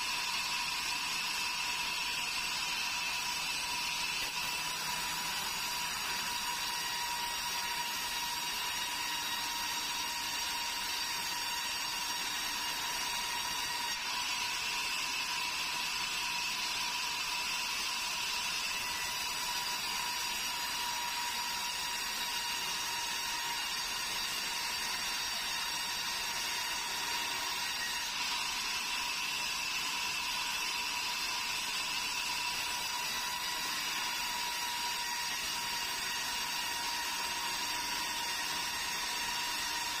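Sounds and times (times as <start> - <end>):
band saw cutting wood: 0.0 - 40.0.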